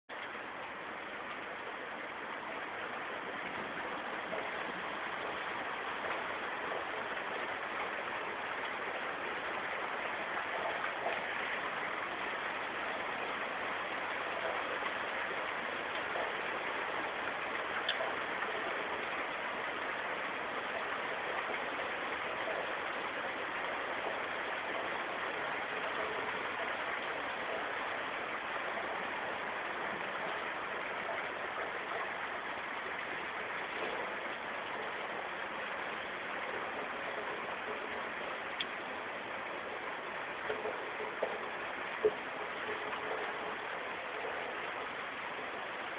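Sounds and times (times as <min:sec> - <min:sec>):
rain falling: 0:00.1 - 0:45.9
faint drips ticking: 0:02.4 - 0:45.9.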